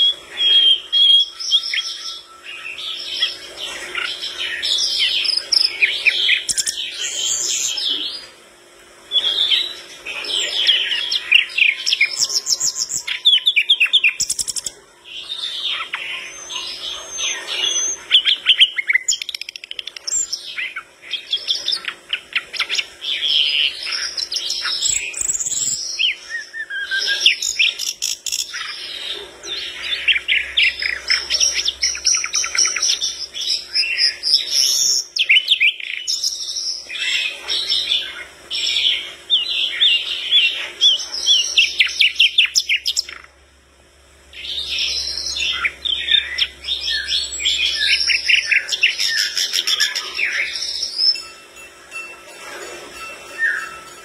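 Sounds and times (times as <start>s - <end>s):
bird singing rapid trills: 0.0s - 8.4s, 9.1s - 43.4s, 44.2s - 52.1s, 53.2s - 54.0s.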